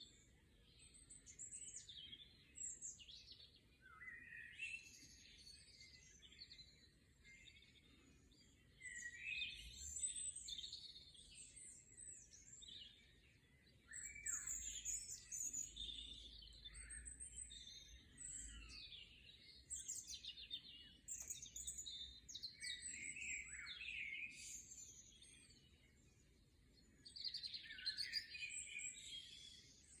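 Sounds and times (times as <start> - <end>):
songbirds singing and chirping: 0.0 - 30.0.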